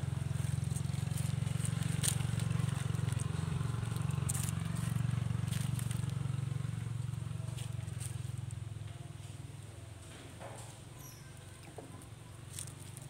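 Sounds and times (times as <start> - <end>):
faint crackles of leaves: 0.0 - 13.0.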